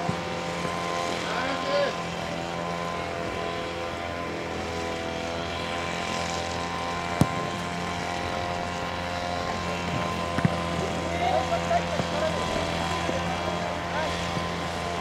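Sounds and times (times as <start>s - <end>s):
steady engine-like drone: 0.0s - 15.0s.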